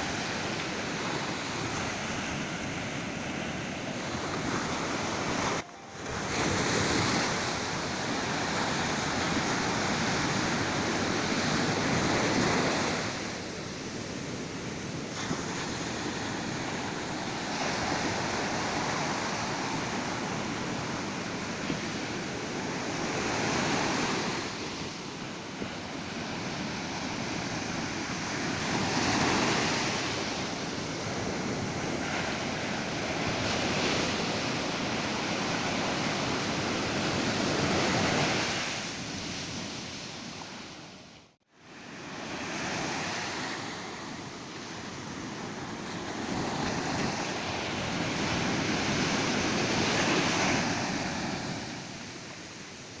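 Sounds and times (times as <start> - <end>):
ocean surf washing onto beach: 0.0 - 53.0.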